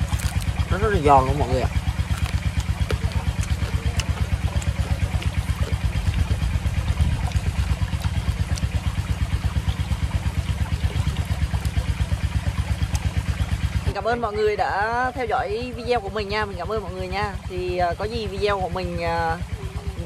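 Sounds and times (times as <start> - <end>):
small engine idling: 0.0 - 20.0.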